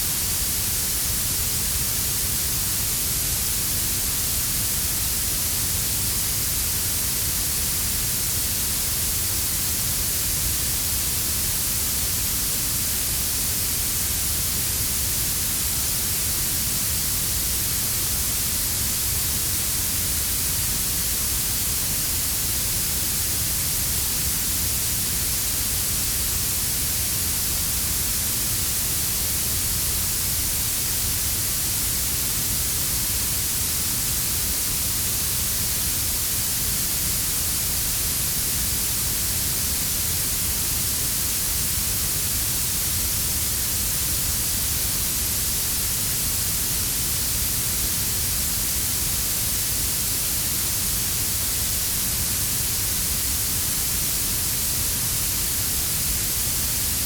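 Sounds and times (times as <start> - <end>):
bright steady hiss: 0.0 - 57.0.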